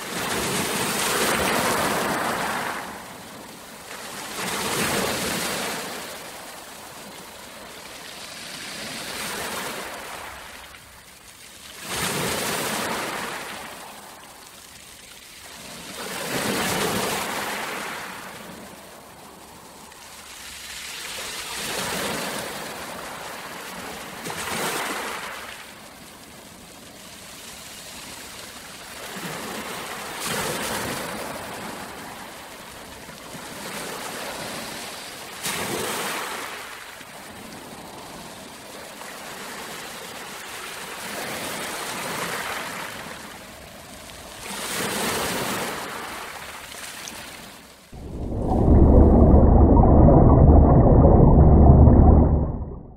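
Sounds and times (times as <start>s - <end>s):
waves washing onto sandy shore: 0.0s - 48.6s.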